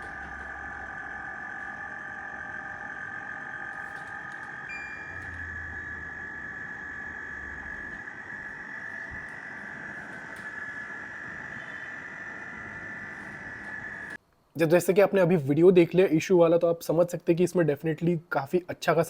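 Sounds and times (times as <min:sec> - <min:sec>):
air conditioner whine and hiss: 0:00.0 - 0:19.0.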